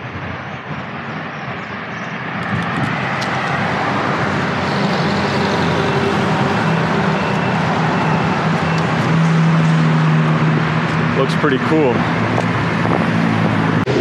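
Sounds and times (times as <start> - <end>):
low engine hum: 0.0 - 14.0
motor vehicle approaching: 0.0 - 14.0.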